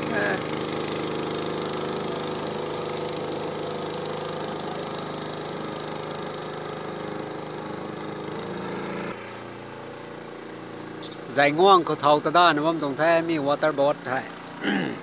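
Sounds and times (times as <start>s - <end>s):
motor boat engine running: 0.0s - 15.0s.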